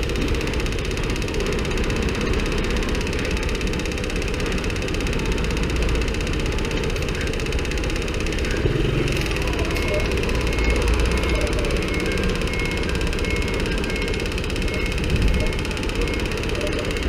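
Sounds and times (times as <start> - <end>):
abnormal mechanical engine noise: 0.0 - 17.0
motorcycle engine running: 0.0 - 17.0.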